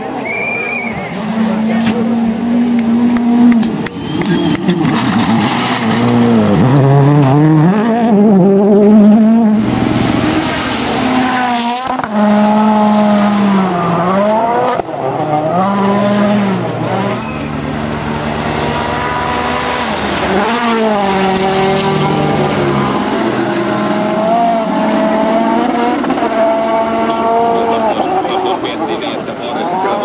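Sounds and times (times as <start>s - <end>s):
rally car engines running hard: 0.0s - 30.0s.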